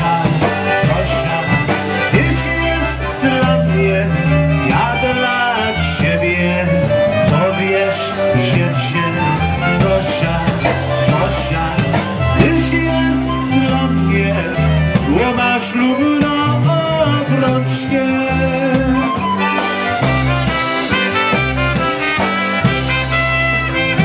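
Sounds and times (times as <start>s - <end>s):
accordion: 0.0s - 24.0s
drum kit with cymbals: 0.0s - 24.0s
electric bass: 0.0s - 24.0s.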